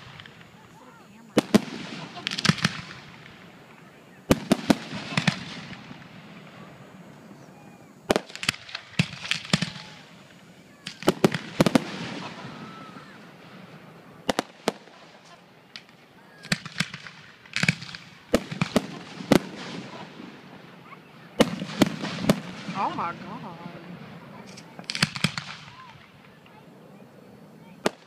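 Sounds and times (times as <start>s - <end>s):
firework shells bursting: 0.0s - 7.4s, 8.0s - 20.7s, 21.3s - 26.6s.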